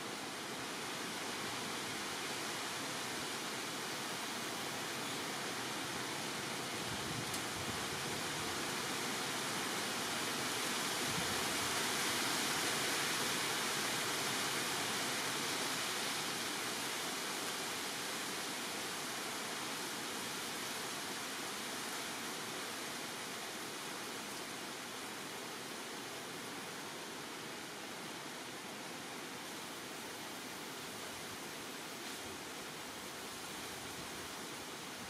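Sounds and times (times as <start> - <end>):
steady rushing hiss: 0.0 - 35.0.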